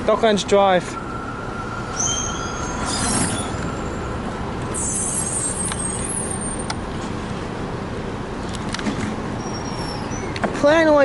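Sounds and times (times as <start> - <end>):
street traffic: 0.0 - 11.0
tram running: 0.0 - 11.0.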